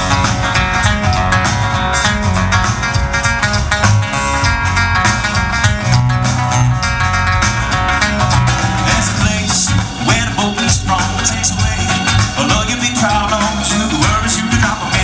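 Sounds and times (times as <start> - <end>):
country band playing: 0.0 - 15.0.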